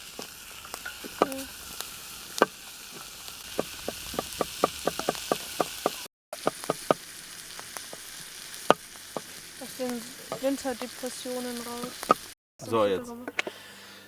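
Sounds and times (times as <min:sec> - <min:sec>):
sharp clicks and pops: 0:00.0 - 0:12.4
vegetables sizzling in a pan: 0:00.0 - 0:14.0.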